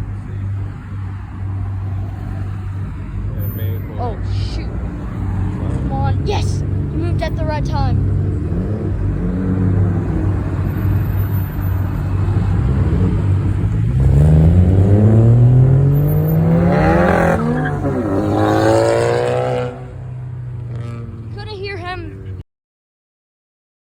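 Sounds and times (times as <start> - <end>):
car engine accelerating: 0.0 - 22.4
idling engines drone: 0.0 - 22.4.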